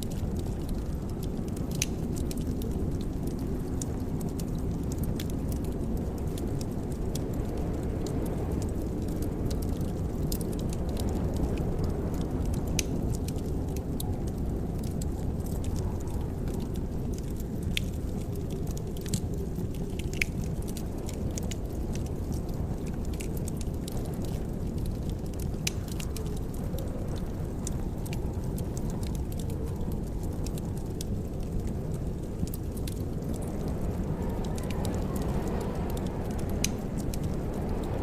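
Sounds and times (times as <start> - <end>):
steady low rumble: 0.0 - 38.0
wood fire crackling: 0.0 - 38.0.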